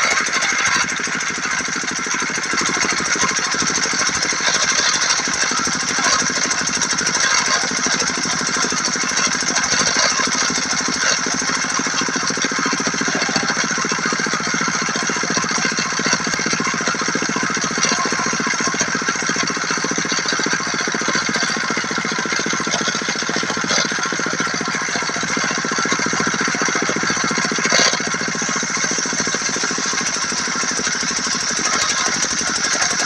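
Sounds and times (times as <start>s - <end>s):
diesel engine knocking: 0.0s - 33.0s.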